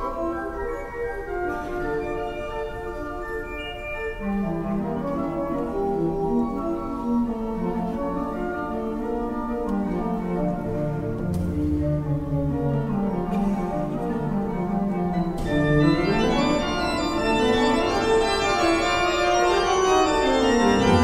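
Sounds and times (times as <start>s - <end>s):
pipe organ playing: 0.0s - 21.0s.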